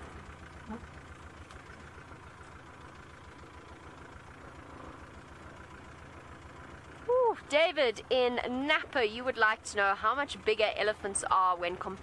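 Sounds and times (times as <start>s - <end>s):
vehicle engine running at low speed: 0.0s - 12.0s.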